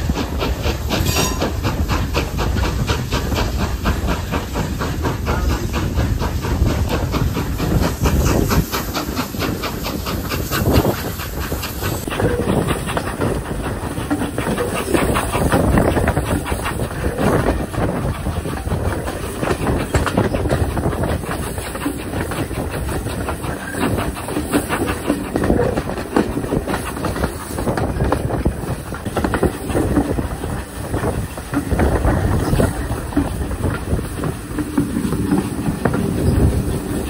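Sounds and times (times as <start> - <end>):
steam hissing: 0.0 - 37.0
steam locomotive beat: 0.0 - 37.0
train rumble: 0.0 - 37.0.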